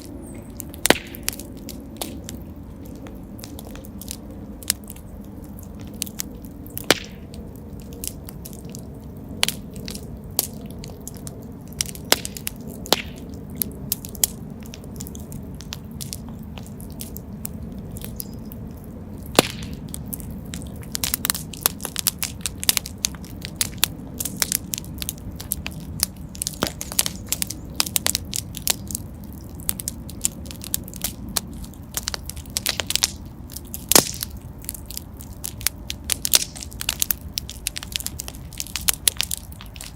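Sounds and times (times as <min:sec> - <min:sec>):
fireplace fire crackling and popping: 0:00.0 - 0:39.9.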